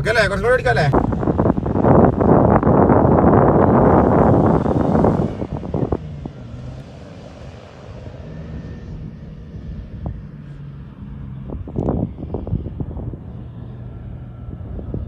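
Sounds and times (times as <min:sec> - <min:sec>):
low engine hum: 0:00.0 - 0:15.0
wind buffeting microphone: 0:00.0 - 0:15.0.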